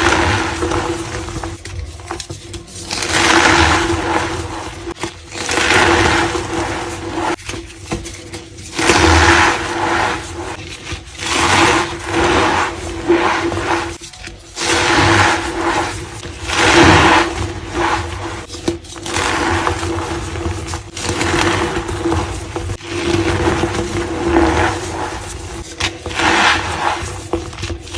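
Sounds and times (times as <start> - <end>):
chalk being crushed: 0.0 - 27.9.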